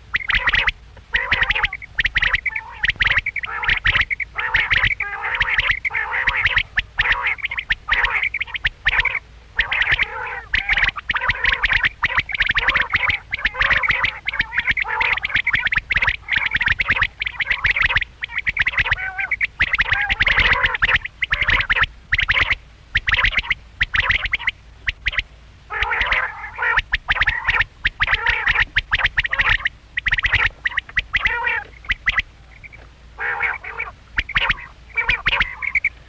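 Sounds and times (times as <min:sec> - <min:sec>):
quail calling: 0:00.0 - 0:36.0.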